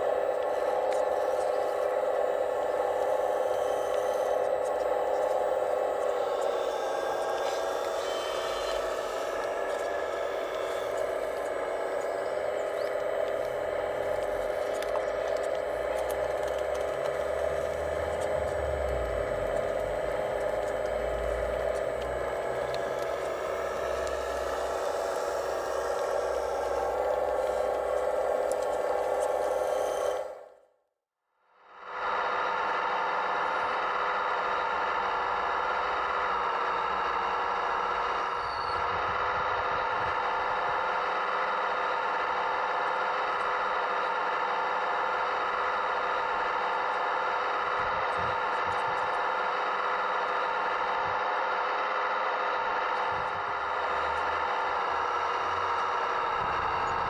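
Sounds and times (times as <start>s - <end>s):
hydraulic pump whining: 0.0s - 30.6s, 33.2s - 57.0s.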